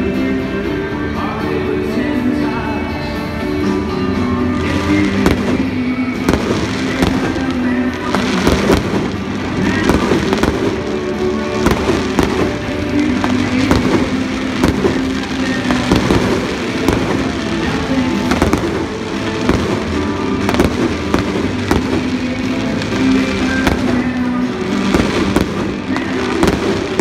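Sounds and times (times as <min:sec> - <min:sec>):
music playing: 0:00.0 - 0:27.0
fireworks bursting: 0:04.3 - 0:27.0.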